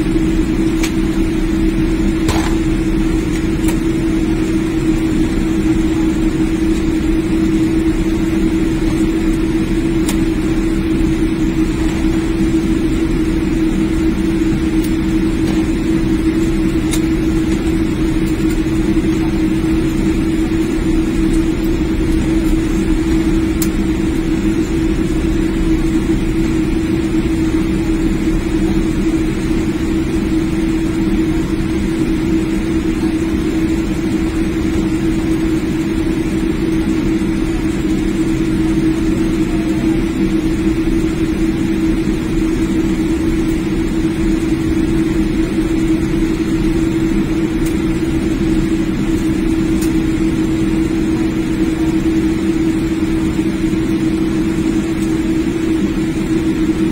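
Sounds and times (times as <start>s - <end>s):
constant low hum: 0.0s - 56.9s
jet cabin engine drone: 0.0s - 56.9s.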